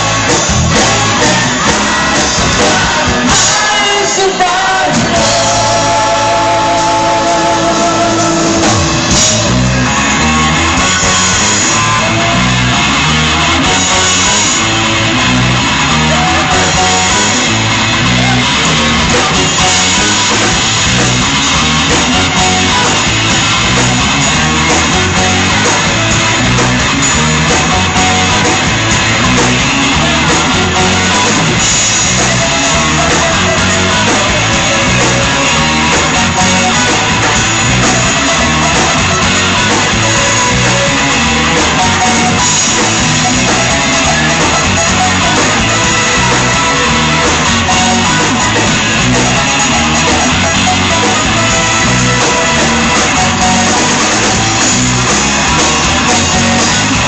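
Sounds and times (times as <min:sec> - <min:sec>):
electric guitar: 0:00.0 - 0:57.0
live rock band: 0:00.0 - 0:57.0.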